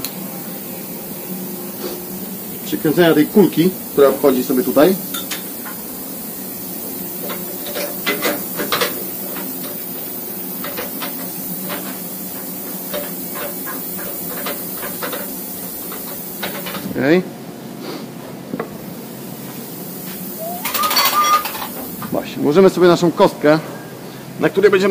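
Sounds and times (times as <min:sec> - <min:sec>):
machine shop hum and hiss: 0:00.0 - 0:24.9.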